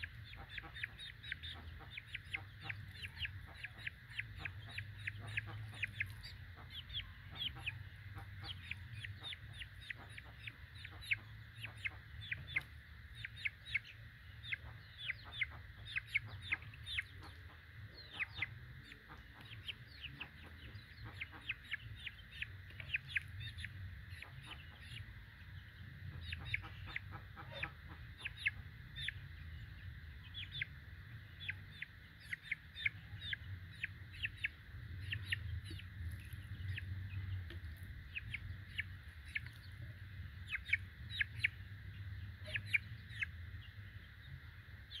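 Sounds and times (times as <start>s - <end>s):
chick peeping: 0.0s - 45.0s.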